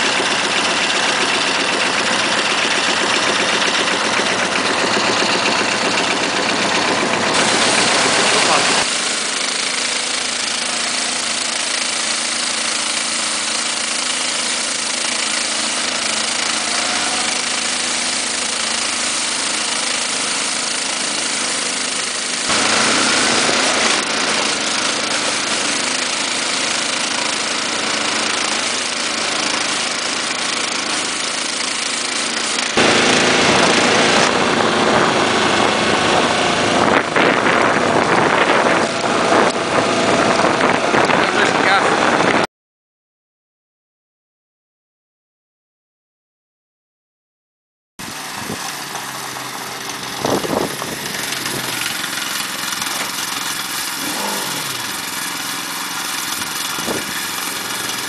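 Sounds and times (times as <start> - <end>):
sweeper brush throwing snow: 0.0 - 36.8, 48.1 - 58.0
atv engine running: 0.0 - 42.5, 48.0 - 58.0
small petrol engine running: 0.0 - 42.5, 48.0 - 58.0.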